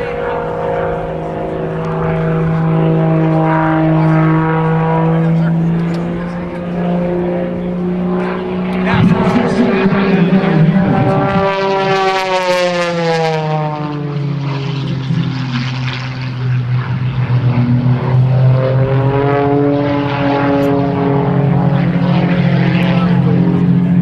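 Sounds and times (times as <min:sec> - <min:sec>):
propeller plane engine: 0:00.0 - 0:24.0.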